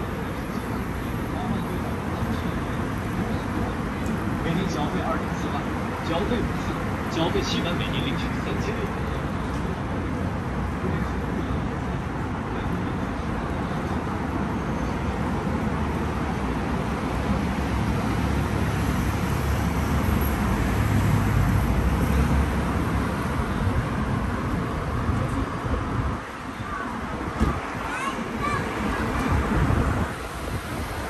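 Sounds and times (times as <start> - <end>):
city road traffic: 0.0 - 31.0.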